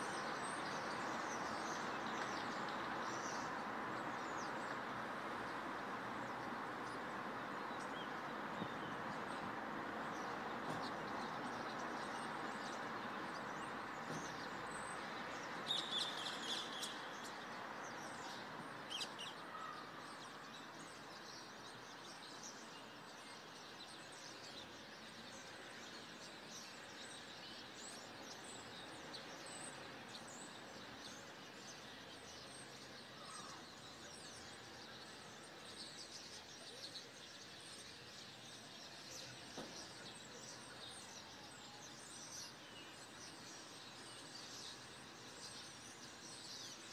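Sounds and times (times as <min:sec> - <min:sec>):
faint steady background noise: 0:00.0 - 0:46.9
small birds chirping: 0:00.0 - 0:46.9.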